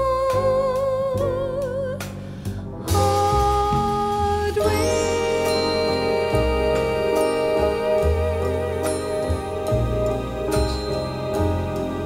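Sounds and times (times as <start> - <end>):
soft vocal jazz music: 0.0 - 12.0.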